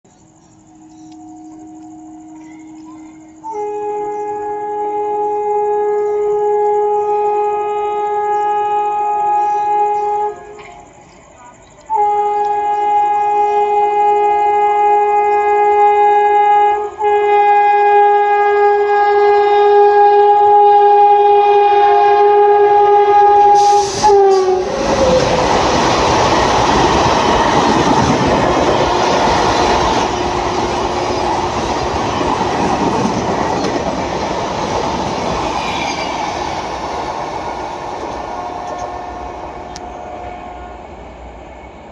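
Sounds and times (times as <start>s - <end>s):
train wheel and rail noise: 0.0s - 41.9s
locomotive horn blast: 0.8s - 10.7s, 11.8s - 25.3s, 26.1s - 34.1s, 35.2s - 41.1s.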